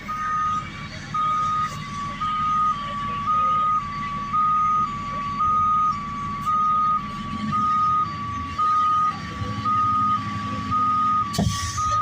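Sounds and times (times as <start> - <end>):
truck engine running: 0.0 - 12.0
two-tone reversing alarm: 0.0 - 12.0.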